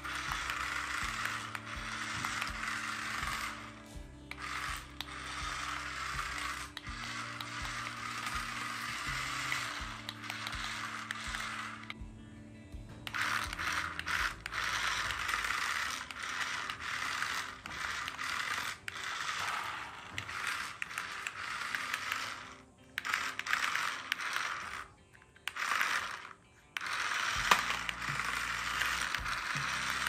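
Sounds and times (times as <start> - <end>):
toy motors whirring and grinding: 0.0 - 12.0, 12.9 - 30.0.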